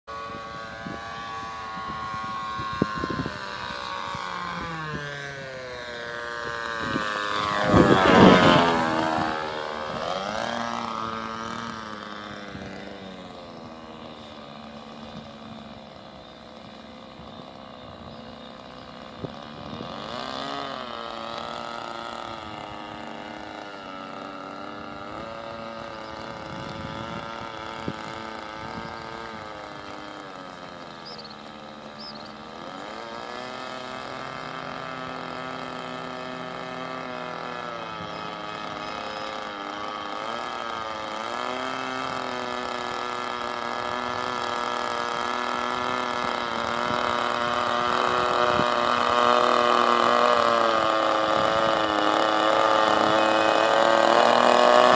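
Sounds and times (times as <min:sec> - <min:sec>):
model aeroplane engine buzzing: 0:00.0 - 0:54.9.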